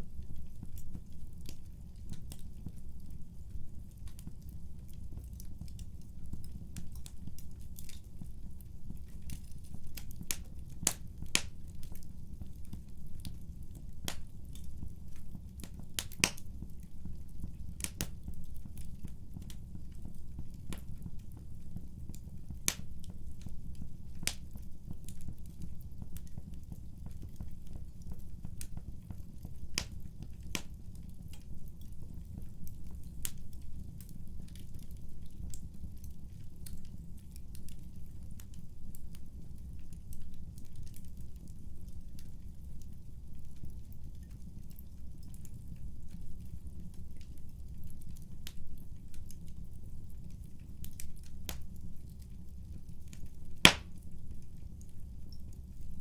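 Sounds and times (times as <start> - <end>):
fireplace fire crackling and popping: 0.0 - 56.0.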